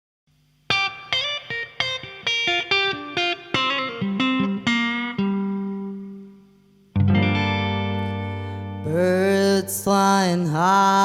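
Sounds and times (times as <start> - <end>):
guitar picked notes: 0.7 - 11.0.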